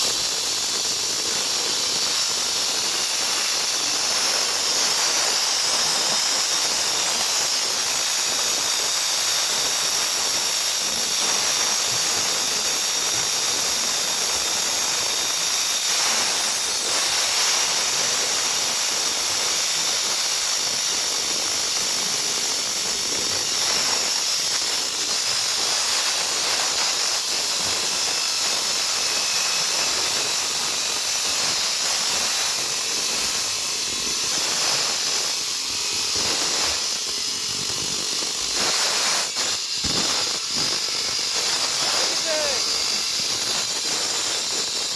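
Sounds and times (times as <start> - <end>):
concrete saw grinding: 0.0 - 44.9.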